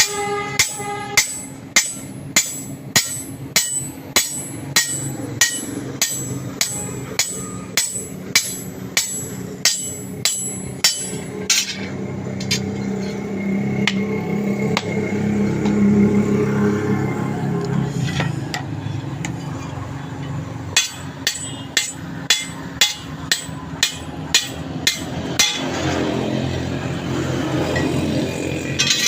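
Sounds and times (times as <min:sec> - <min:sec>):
hammer striking steel: 0:00.0 - 0:15.9, 0:20.2 - 0:29.0.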